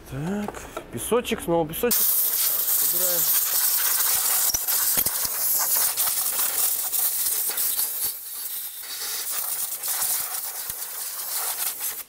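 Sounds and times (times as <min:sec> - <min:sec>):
compressed air blow gun hissing: 0:01.9 - 0:12.0.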